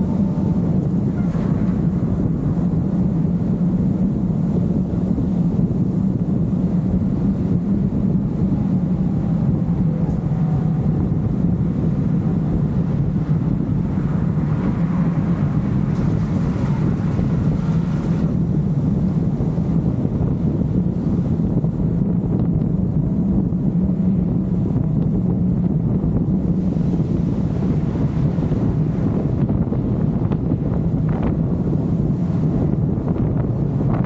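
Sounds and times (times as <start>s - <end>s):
car road and wind noise: 0.0s - 34.0s.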